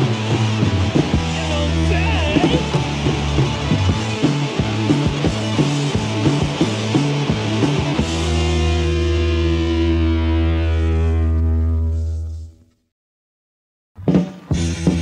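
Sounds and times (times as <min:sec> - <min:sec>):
punk rock band playing: 0:00.0 - 0:11.8, 0:14.0 - 0:15.0.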